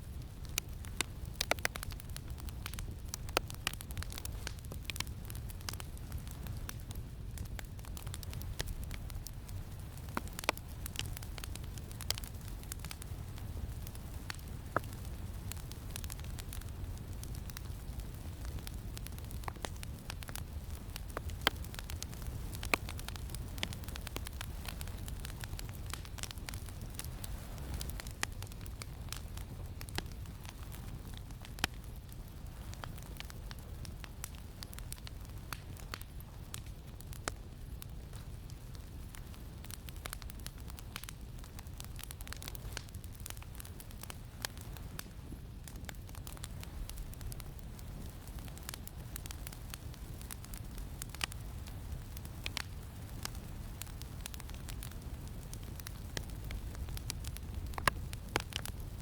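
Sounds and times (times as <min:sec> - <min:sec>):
campfire crackling: 0:00.0 - 0:59.0
low rumble of wind: 0:00.0 - 0:59.0.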